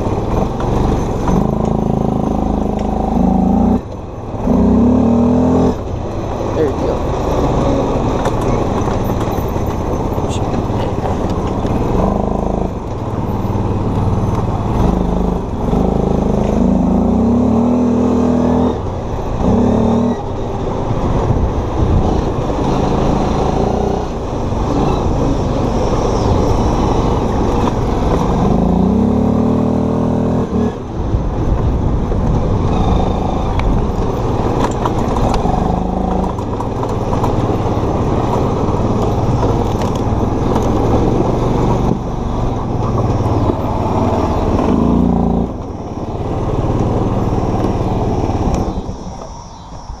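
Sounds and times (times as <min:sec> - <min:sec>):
atv engine revving: 0:00.0 - 0:49.3.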